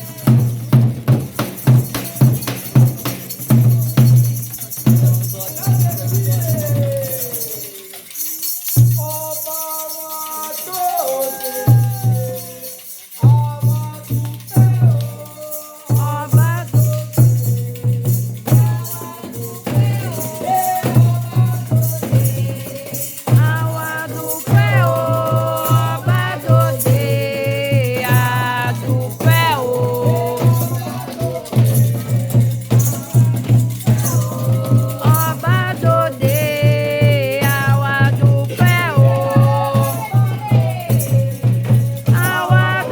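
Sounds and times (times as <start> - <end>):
fast drum beat: 0.0 - 7.5, 11.6 - 12.4, 13.2 - 42.9
people singing: 0.0 - 42.9
shaken rattle: 0.0 - 42.9.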